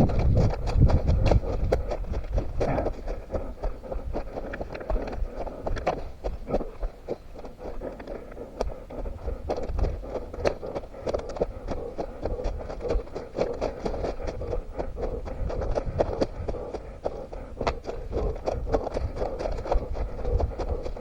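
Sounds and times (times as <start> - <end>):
running footsteps on forest ground: 0.0 - 21.0.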